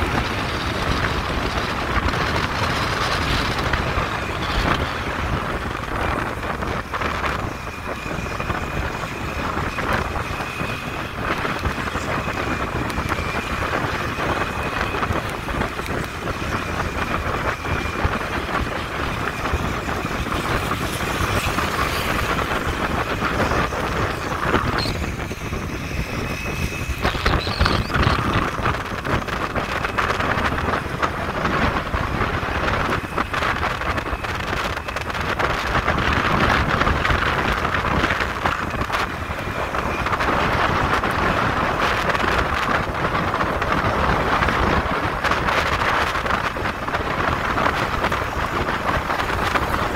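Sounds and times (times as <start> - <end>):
motorcycle engine and road noise: 0.0 - 49.9
wind rushing over microphone: 0.0 - 49.9.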